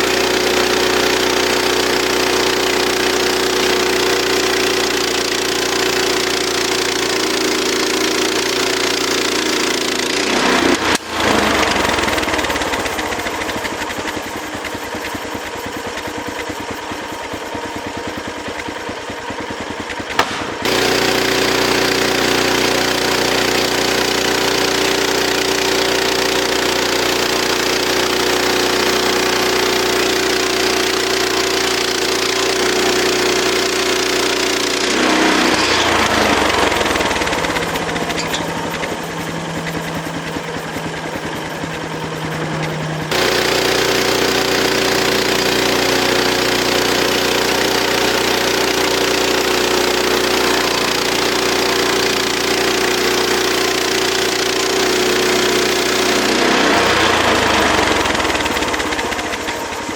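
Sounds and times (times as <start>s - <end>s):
sawmill gasoline engine running: 0.0s - 59.9s.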